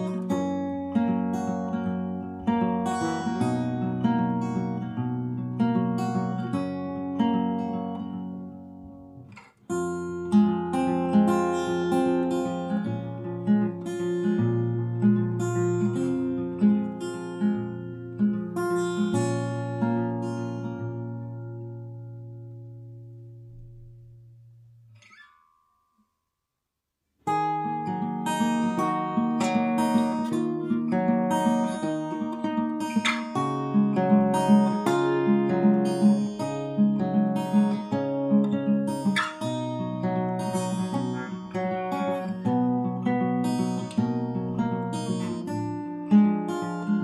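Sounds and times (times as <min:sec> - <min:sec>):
acoustic guitar music: 0:00.0 - 0:47.0.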